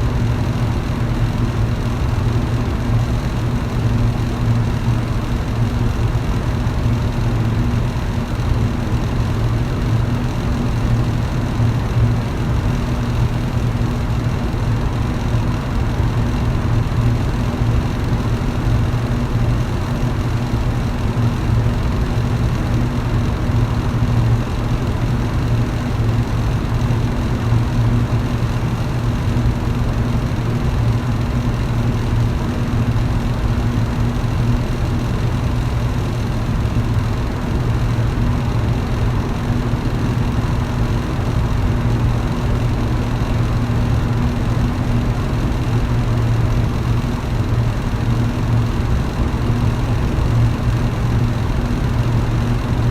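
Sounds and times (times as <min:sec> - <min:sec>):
electric fan running: 0:00.0 - 0:52.9.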